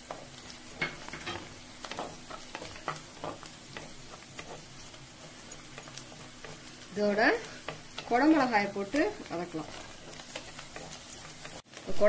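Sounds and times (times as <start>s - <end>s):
spatula scraping and tapping pot: 0.0s - 11.8s
onions sizzling in hot oil: 0.0s - 12.0s.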